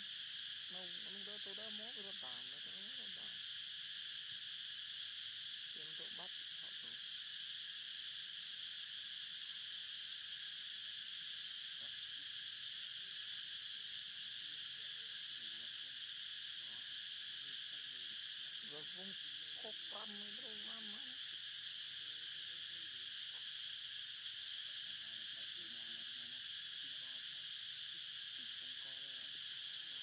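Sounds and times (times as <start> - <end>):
shrill insect chorus: 0.0 - 30.0.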